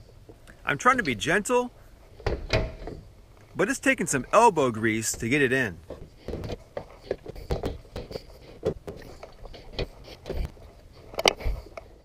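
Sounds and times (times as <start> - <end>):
radiator knocking and scraping: 0.0 - 12.0.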